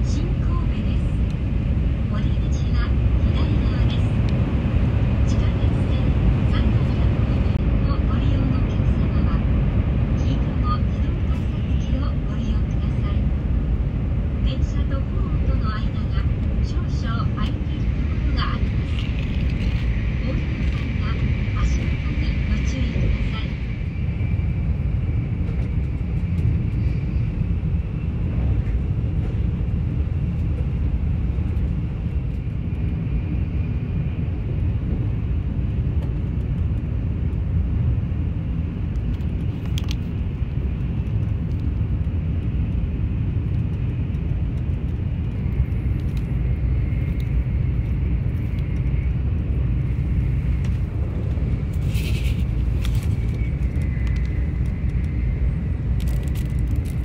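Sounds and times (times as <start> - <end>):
train interior rumble: 0.0 - 57.0.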